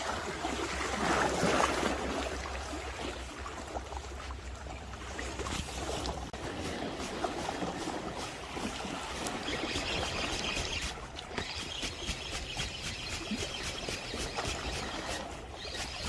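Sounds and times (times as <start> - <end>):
waves lapping against rocks: 0.0 - 16.0.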